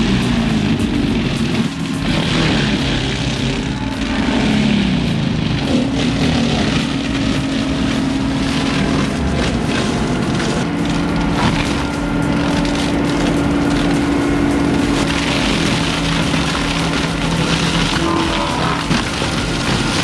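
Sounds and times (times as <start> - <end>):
mulcher engine droning: 0.0 - 20.0.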